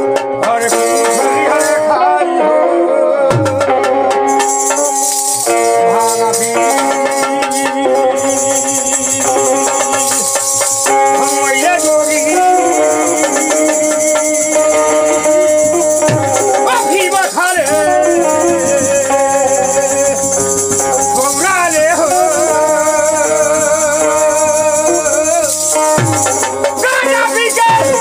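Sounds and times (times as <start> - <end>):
hand drum: 0.0 - 28.0
harmonium melody: 0.0 - 28.0
jingling hand percussion: 0.0 - 28.0
man singing: 0.0 - 28.0.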